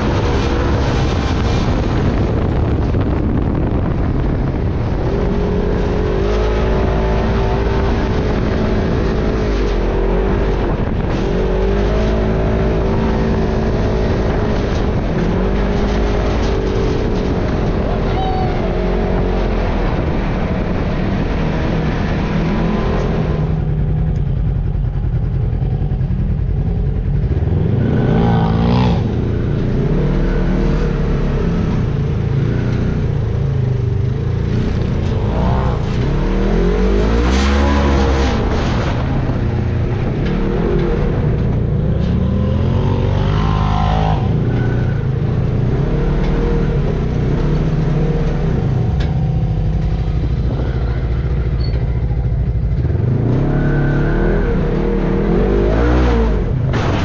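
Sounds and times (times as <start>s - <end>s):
vehicle engine revving: 0.0s - 57.0s.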